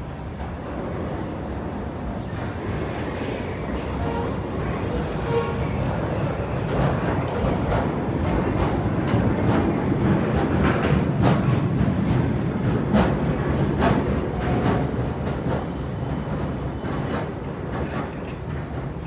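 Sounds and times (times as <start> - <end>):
train wheels rumbling on track: 0.0 - 19.0
wheels clacking over rail joints: 0.2 - 15.8.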